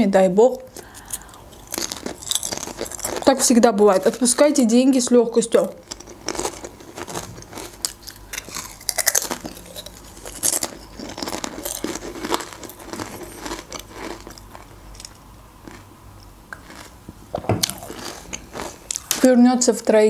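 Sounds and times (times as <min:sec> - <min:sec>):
crunching and chewing chips: 0:00.7 - 0:04.4, 0:05.5 - 0:19.3.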